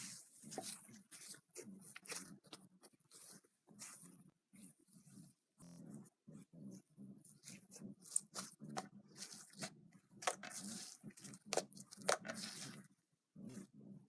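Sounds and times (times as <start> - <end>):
slime squishing: 0.0 - 14.0.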